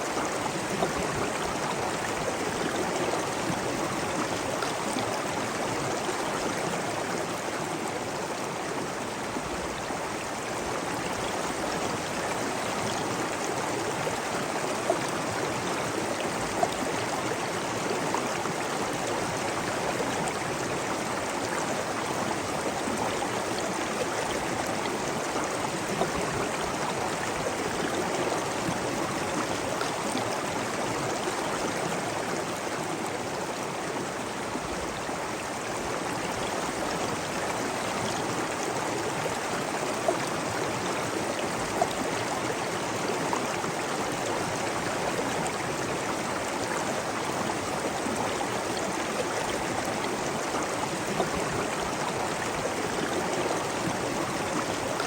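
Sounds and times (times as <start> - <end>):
flowing and falling water: 0.0 - 55.0.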